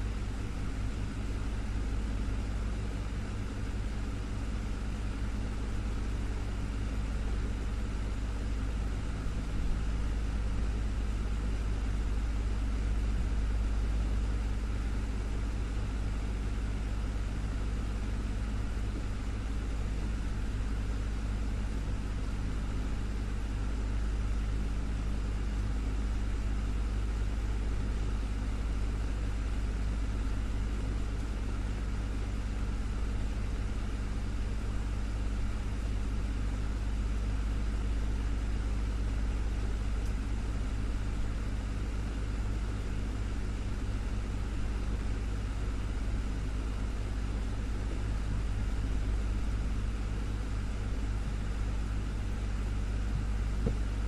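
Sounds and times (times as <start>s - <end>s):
desktop fan humming: 0.0s - 54.0s.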